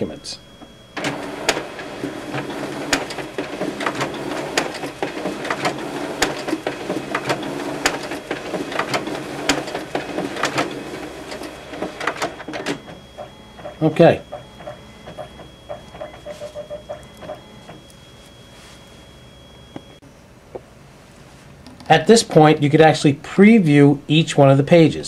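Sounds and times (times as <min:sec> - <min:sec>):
copier motor hum: 0:00.0 - 0:21.0.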